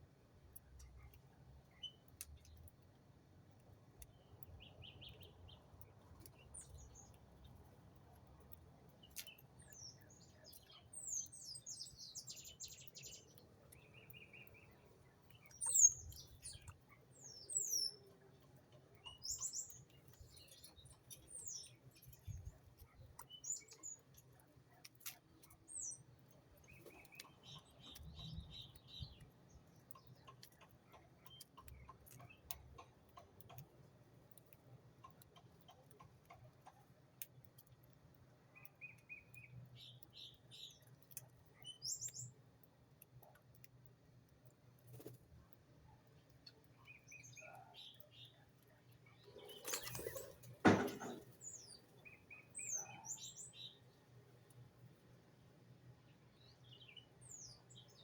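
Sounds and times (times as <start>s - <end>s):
small birds chirping: 0.1s - 58.0s.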